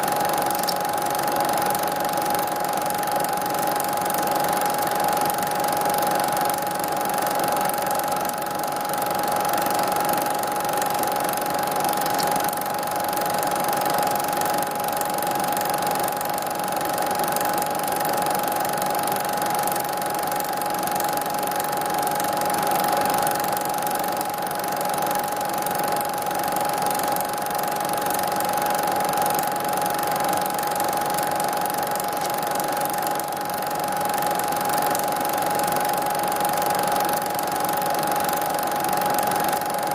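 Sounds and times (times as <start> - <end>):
machine running with high whine: 0.0 - 39.9.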